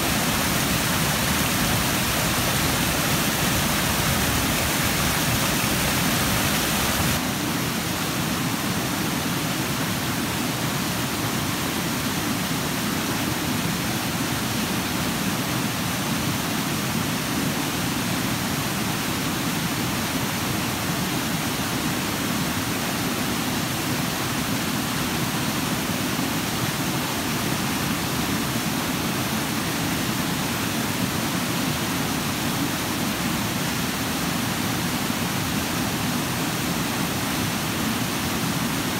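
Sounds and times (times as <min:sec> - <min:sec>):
waterfall pouring over rocks: 0:00.0 - 0:38.9.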